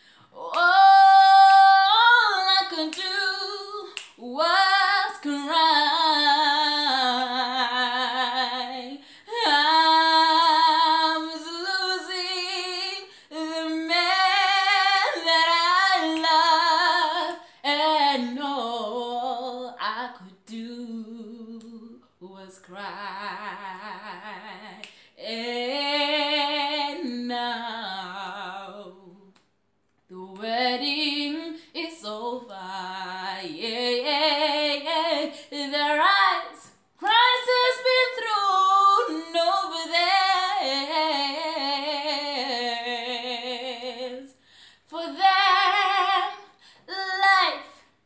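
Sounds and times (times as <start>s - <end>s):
woman singing unaccompanied: 0.3s - 29.4s, 30.1s - 48.0s.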